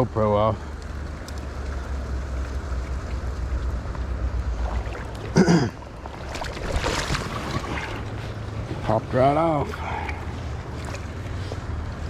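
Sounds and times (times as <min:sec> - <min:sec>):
river water flowing: 0:00.4 - 0:12.0.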